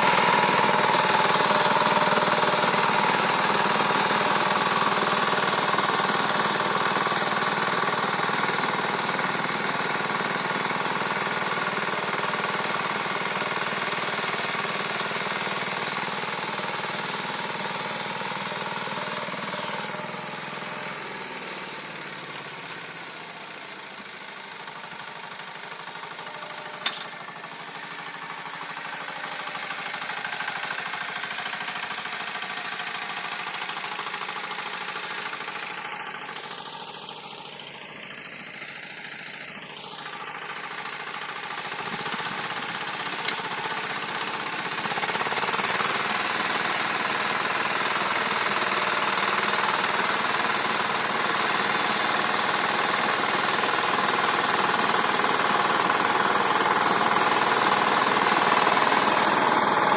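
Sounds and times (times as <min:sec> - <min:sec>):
tractor engine tilling soil: 0:00.0 - 0:59.9.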